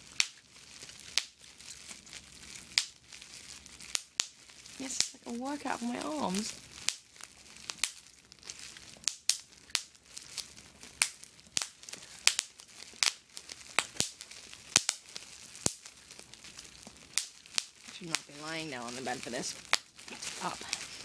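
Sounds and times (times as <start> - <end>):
bubble wrap popping: 0.0 - 21.0
plastic crinkling: 0.0 - 21.0.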